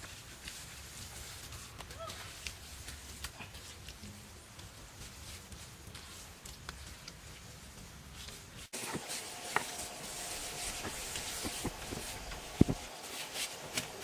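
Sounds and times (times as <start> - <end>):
soft knocks and scuffs in soil: 0.0 - 14.0
steady high hiss: 0.0 - 14.0.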